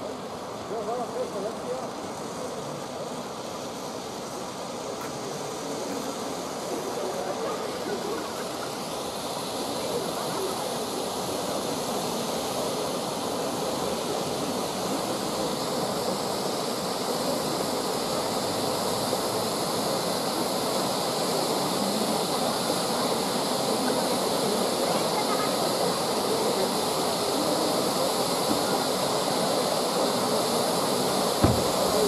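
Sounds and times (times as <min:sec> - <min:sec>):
firework fountains hissing: 0:00.0 - 0:32.0.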